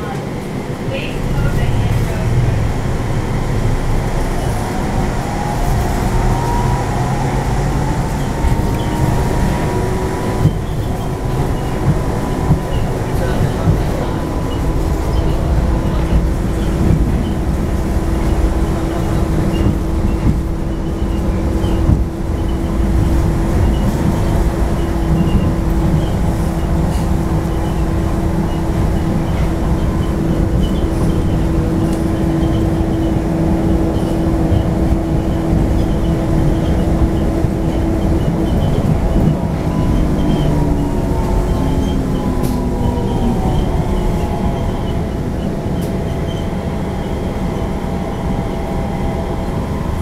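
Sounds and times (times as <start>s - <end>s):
train cabin rumble: 0.0s - 50.0s.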